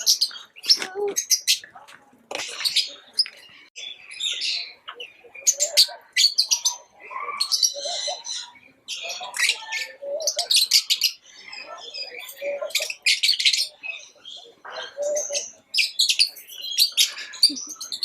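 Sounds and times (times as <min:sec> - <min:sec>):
lovebirds chirping: 0:00.0 - 0:18.0.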